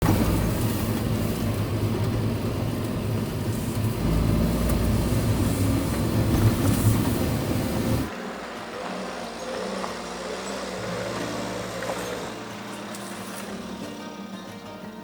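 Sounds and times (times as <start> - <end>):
vehicle rumble: 0.0 - 14.3.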